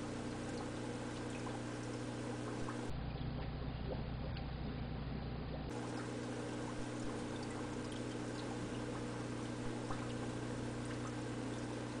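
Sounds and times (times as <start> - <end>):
low electrical hum: 0.0 - 12.0
water trickling: 0.0 - 12.0.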